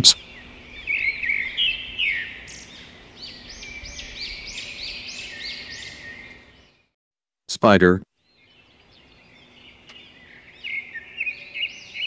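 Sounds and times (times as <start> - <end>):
birds chirping: 0.0 - 7.0, 8.2 - 12.0.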